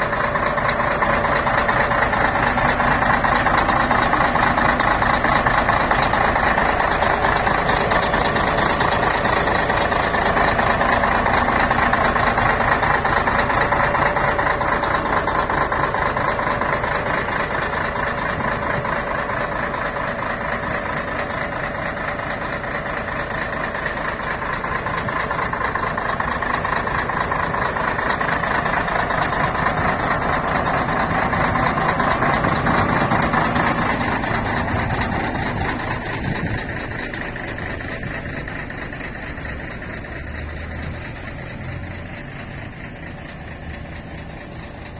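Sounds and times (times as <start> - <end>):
diesel engine droning: 0.0 - 44.9.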